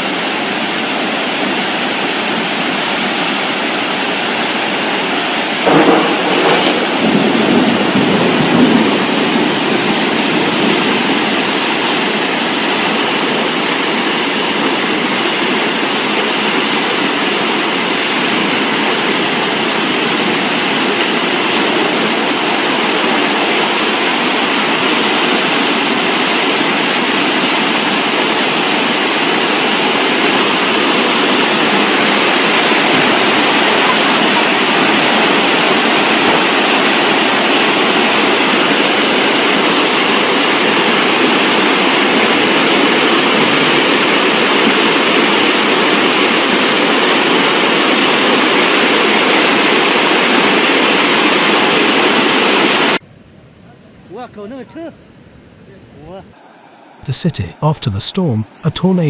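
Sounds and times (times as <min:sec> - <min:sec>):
storm water rushing: 0:02.0 - 0:53.0.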